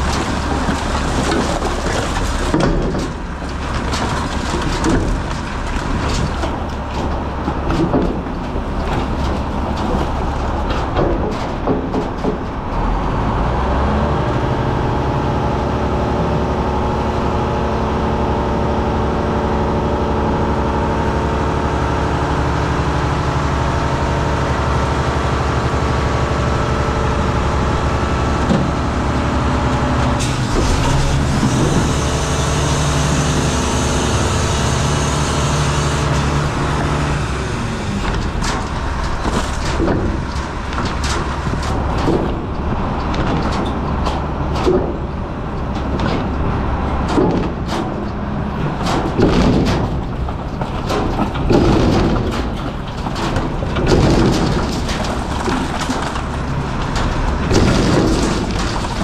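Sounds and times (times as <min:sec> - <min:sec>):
trash clattering into hopper: 0:00.0 - 0:14.3, 0:24.4 - 0:59.0
diesel truck engine running: 0:00.0 - 0:59.0
hydraulics running: 0:00.0 - 0:59.0
steel dumpster banging: 0:00.0 - 0:59.0.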